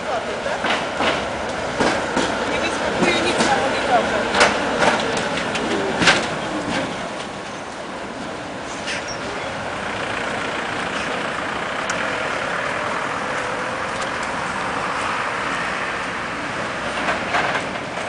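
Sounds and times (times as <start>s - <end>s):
tram rolling on track: 0.0s - 18.0s.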